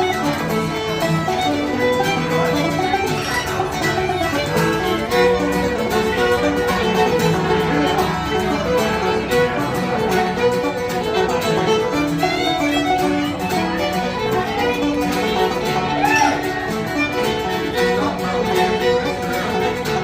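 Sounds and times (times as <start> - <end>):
banjo picking: 0.0 - 20.0
fast fiddle tune: 0.0 - 20.0
mandolin picking: 0.0 - 20.0.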